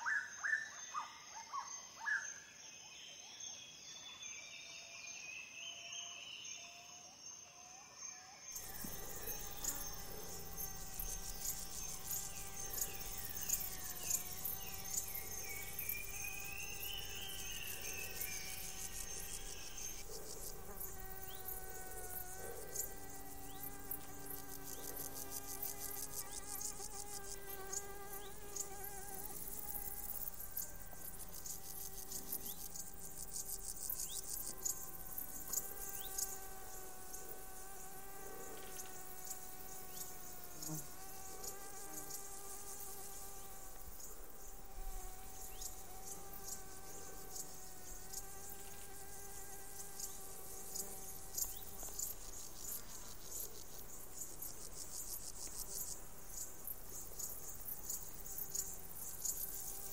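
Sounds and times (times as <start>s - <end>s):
insects buzzing: 0.0s - 59.9s
insects chirping: 0.0s - 59.9s.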